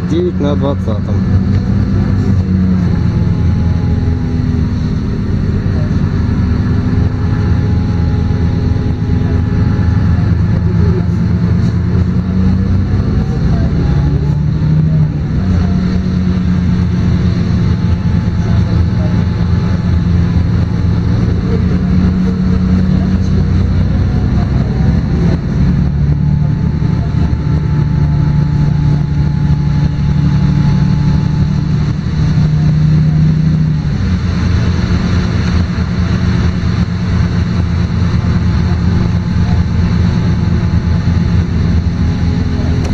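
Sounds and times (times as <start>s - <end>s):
bus diesel engine: 0.0s - 42.9s
drivetrain whine: 0.0s - 42.9s.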